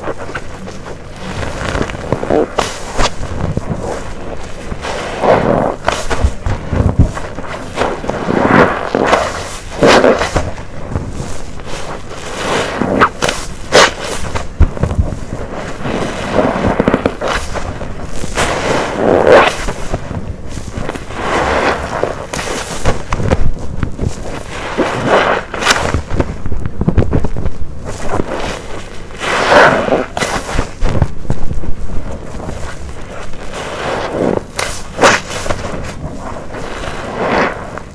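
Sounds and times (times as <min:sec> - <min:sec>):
soapy sponge squelching: 0:00.0 - 0:37.9.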